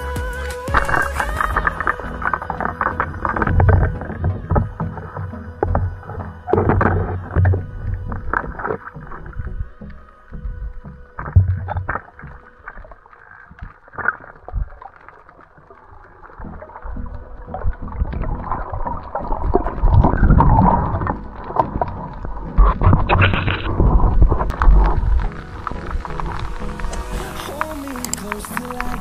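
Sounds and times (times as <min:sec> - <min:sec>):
rushing water noise: 0:00.0 - 0:29.0
muffled underwater clicks and knocks: 0:00.7 - 0:29.0.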